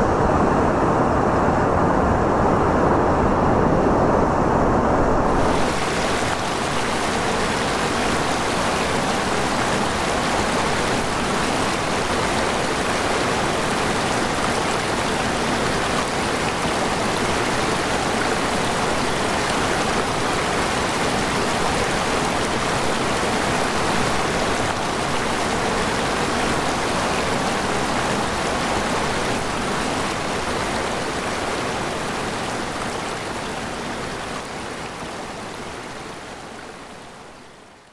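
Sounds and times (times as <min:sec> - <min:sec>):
stream flowing over rocks: 0:05.3 - 0:37.9.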